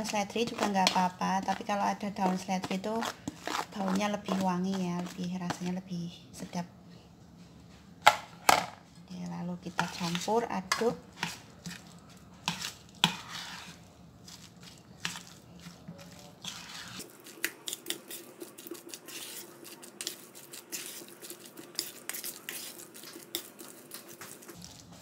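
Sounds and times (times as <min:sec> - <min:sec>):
spoon scraping steel bowl: 0:00.0 - 0:05.7, 0:09.7 - 0:24.6.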